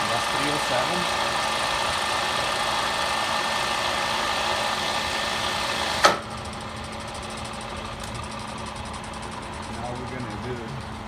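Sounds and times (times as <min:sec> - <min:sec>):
drill press gear hum: 0:00.0 - 0:11.0.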